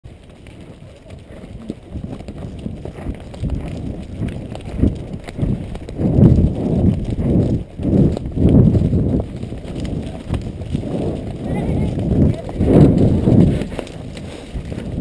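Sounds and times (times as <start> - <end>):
hoofbeats on soft ground: 0.0 - 15.0.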